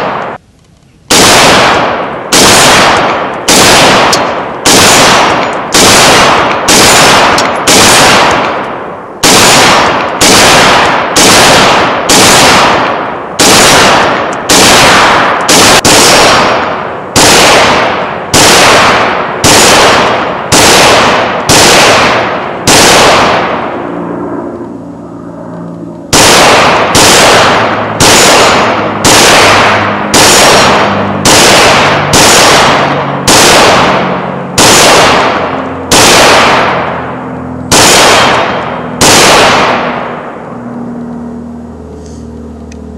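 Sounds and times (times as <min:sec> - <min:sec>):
rifle firing single shots: 0:00.0 - 0:00.4, 0:01.0 - 0:23.8, 0:26.1 - 0:40.5.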